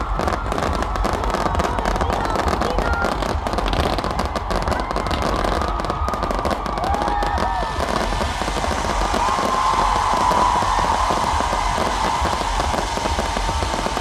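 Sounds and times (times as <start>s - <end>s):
crowd voices calling out: 0.0s - 14.0s
fireworks crackling: 0.0s - 14.0s.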